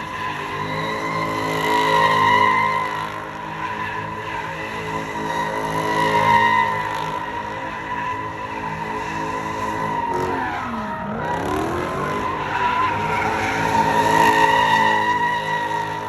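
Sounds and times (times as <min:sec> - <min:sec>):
car engine revving high: 0:00.0 - 0:16.0
tires squealing: 0:00.0 - 0:16.0.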